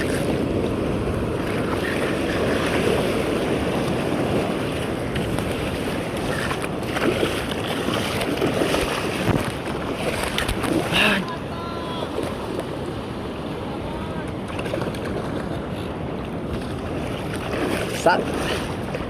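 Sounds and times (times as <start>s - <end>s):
sea water washing around boat: 0.0s - 19.0s
wind buffeting microphone: 0.0s - 19.0s.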